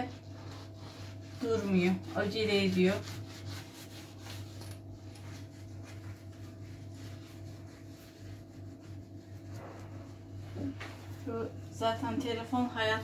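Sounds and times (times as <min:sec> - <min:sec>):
sponge scrubbing a hob: 0:00.0 - 0:13.0
low hum: 0:00.1 - 0:12.8.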